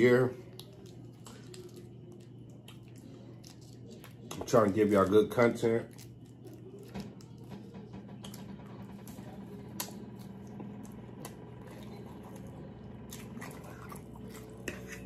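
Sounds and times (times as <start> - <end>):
low steady hum: 0.0 - 15.0
wet chewing: 0.4 - 7.5, 9.8 - 15.0.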